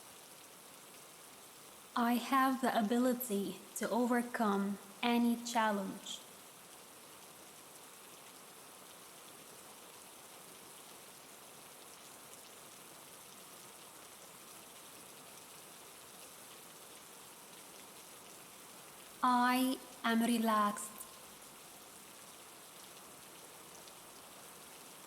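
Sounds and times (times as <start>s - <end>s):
rain patter: 0.0s - 25.0s.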